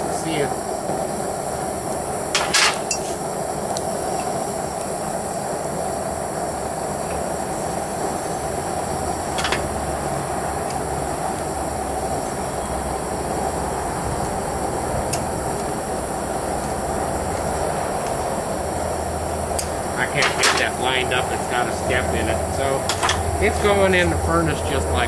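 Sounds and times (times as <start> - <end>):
gas burner rushing: 0.0 - 25.0.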